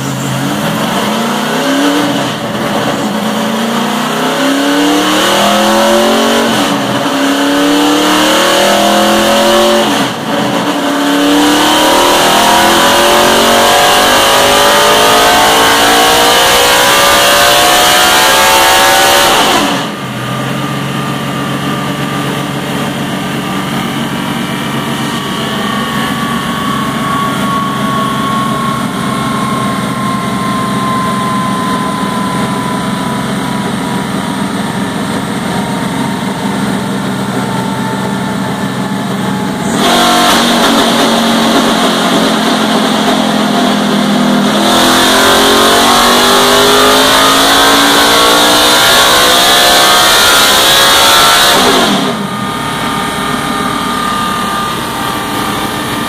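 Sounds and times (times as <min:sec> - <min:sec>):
drivetrain whine: 0:00.0 - 0:56.0
race car engine revving: 0:00.0 - 0:56.0.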